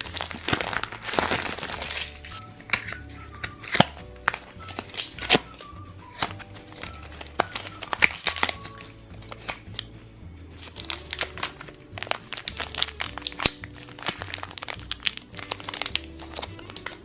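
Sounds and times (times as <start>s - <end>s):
plastic packaging crinkling: 0.0s - 9.9s, 10.6s - 17.0s
light background music: 0.0s - 17.0s.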